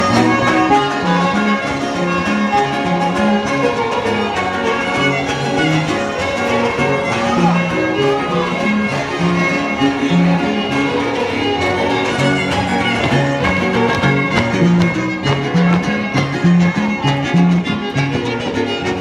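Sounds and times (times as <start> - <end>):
bass line: 0.0 - 19.0
strummed guitars: 0.0 - 19.0
violin melody: 0.0 - 19.0.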